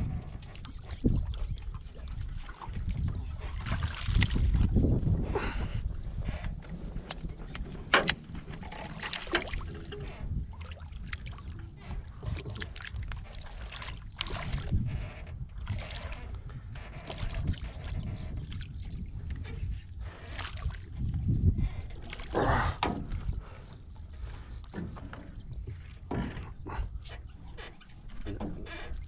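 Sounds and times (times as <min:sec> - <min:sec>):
steady low rumble: 0:00.0 - 0:29.0
water splashing against boat: 0:00.0 - 0:29.0.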